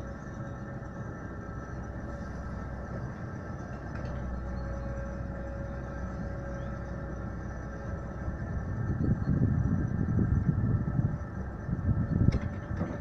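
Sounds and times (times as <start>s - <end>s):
thin steady whine: 0.0s - 12.9s
excavator diesel engine drone: 0.0s - 13.0s.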